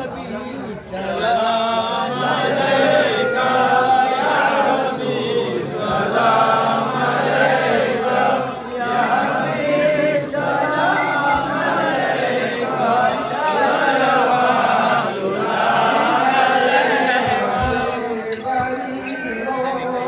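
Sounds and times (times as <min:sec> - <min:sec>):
men chanting in unison: 0:00.6 - 0:20.0.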